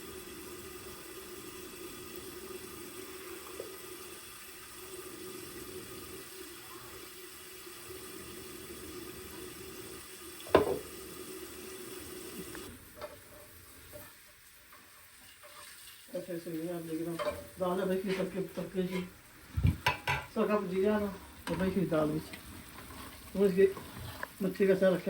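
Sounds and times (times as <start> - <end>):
water running from a tap: 0.0 - 25.0.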